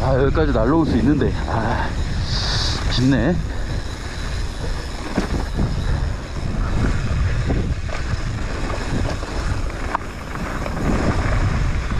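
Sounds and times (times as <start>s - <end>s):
bike clicks and rattles: 0.0s - 11.9s
wind buffeting microphone: 0.0s - 11.9s.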